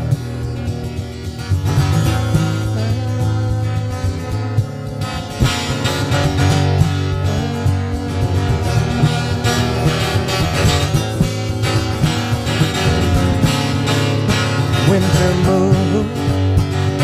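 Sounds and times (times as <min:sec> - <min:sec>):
acoustic guitar instrumental: 0:00.0 - 0:17.0.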